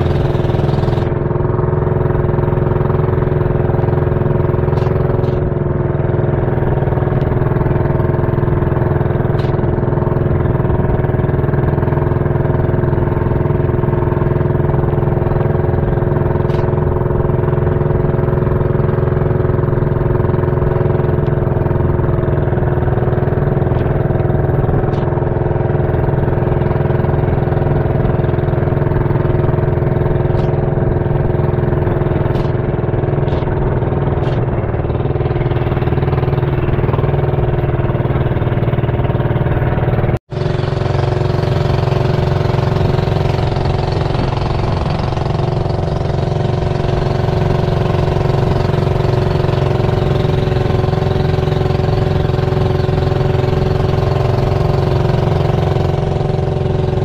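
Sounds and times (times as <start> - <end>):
small boat engine running: 0.0 - 57.0.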